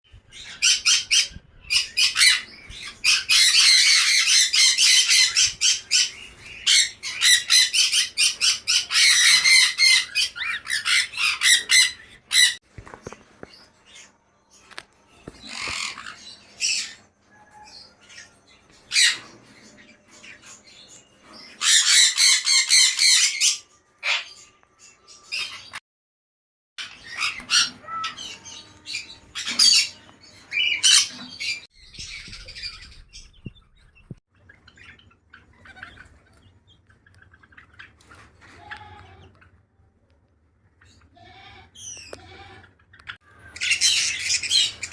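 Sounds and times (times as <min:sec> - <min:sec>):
birds squawking and chirping: 0:00.1 - 0:25.8, 0:26.8 - 0:39.8, 0:40.6 - 0:44.9.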